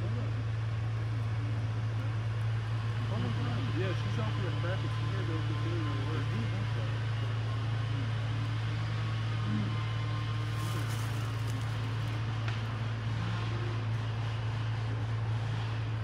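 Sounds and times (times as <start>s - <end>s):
heavy machinery engine humming: 0.0s - 16.0s.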